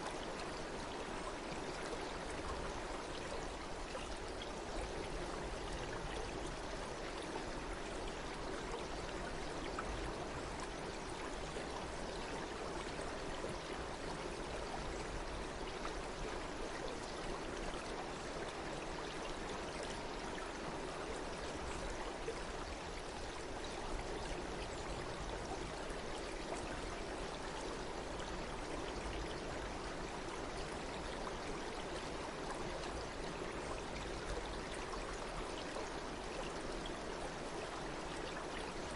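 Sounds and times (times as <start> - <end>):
stream running water: 0.0 - 38.9.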